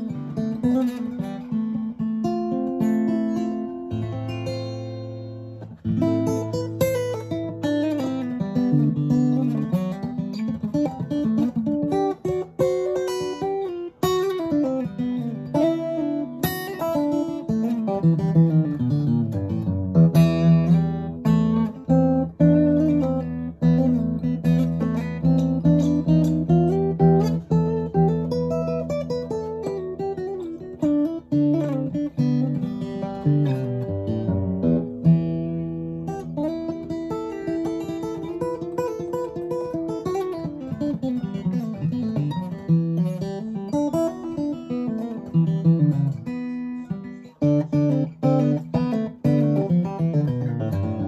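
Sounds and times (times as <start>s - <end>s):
acoustic guitar melody picking: 0.0s - 51.0s.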